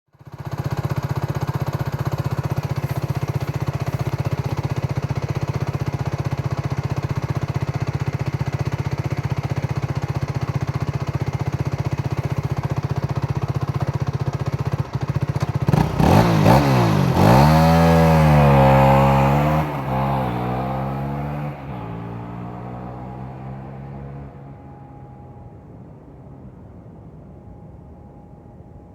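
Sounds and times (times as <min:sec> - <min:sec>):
motorcycle engine idling and revving: 0:00.1 - 0:25.9.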